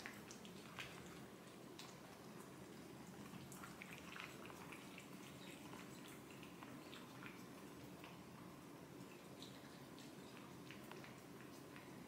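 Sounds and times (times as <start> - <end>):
cats licking wet clicks: 0.0 - 12.0.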